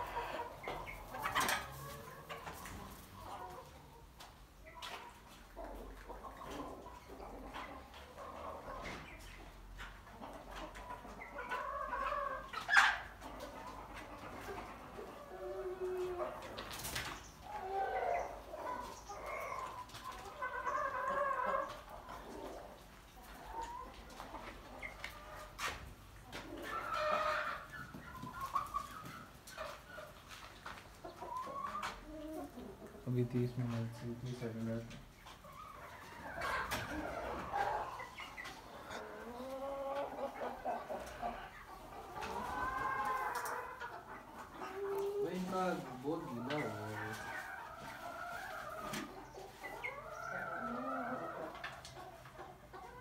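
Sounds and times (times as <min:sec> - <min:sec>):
chickens clucking and calling: 0:00.0 - 0:53.0.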